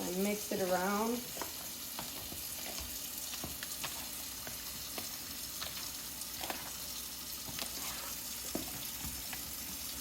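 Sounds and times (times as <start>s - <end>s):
hands squelching raw chicken: 1.3s - 9.5s.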